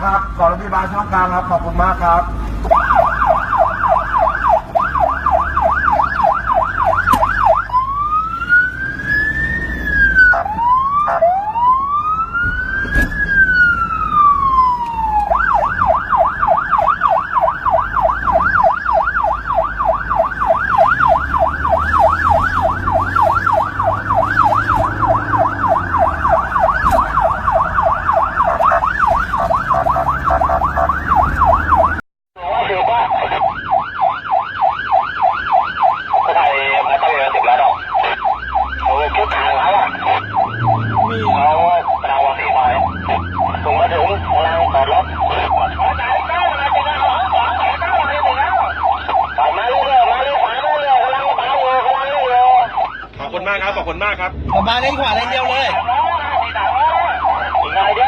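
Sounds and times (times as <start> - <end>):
ambulance siren yelp and wail: 0.0 - 58.0
vehicle engine rumble: 0.0 - 58.0.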